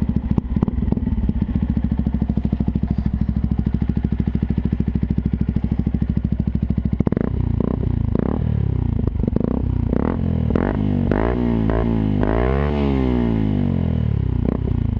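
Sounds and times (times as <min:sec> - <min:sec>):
motorcycle engine idling and revving: 0:00.0 - 0:14.9.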